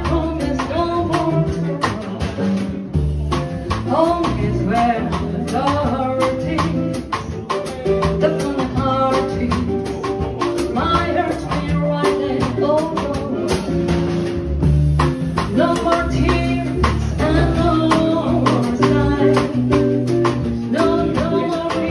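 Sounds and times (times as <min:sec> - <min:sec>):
person singing: 0:00.0 - 0:14.1, 0:15.3 - 0:21.9
acoustic guitar: 0:00.0 - 0:21.9
bass: 0:00.0 - 0:21.9
drums beat: 0:00.0 - 0:21.9.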